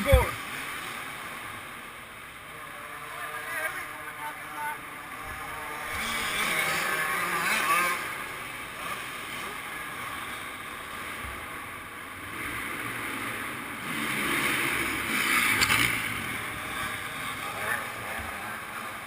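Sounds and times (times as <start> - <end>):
motocross bike engines: 0.0 - 19.0.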